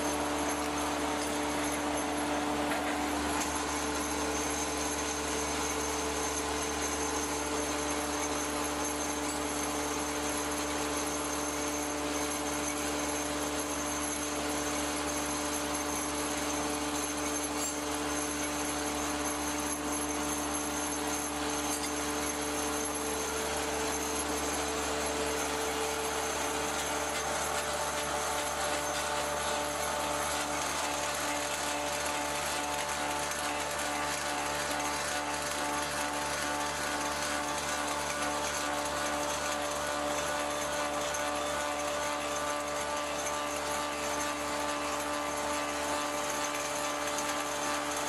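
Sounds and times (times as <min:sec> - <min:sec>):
lathe running with mechanical hum: 0:00.0 - 0:48.0.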